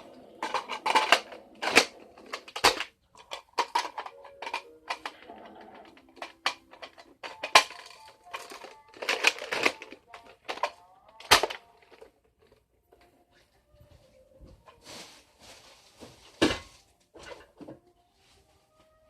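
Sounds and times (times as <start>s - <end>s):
faint music or voices: 0.0s - 19.0s.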